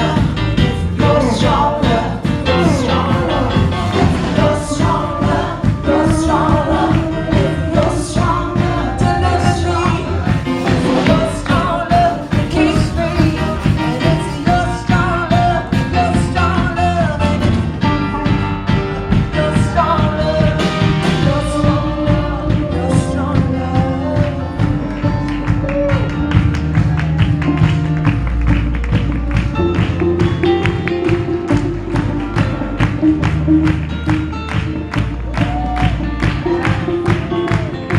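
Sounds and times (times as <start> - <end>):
live band praise music: 0.0 - 37.9
person singing: 0.0 - 37.9.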